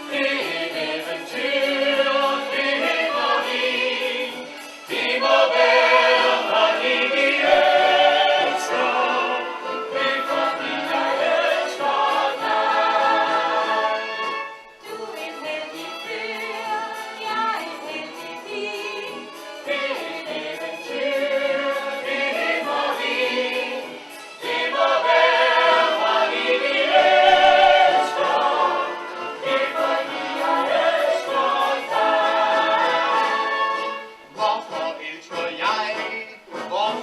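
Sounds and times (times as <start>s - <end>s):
chorus singing musical number: 0.0s - 37.0s.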